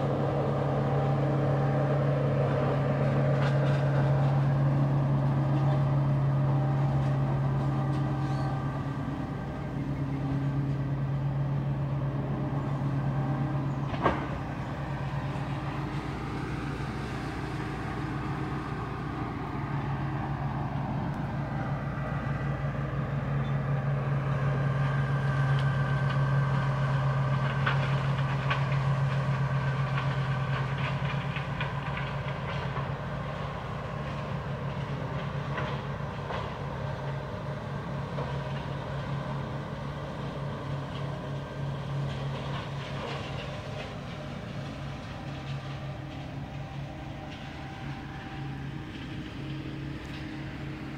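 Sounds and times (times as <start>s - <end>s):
low motor hum: 0.0s - 50.9s.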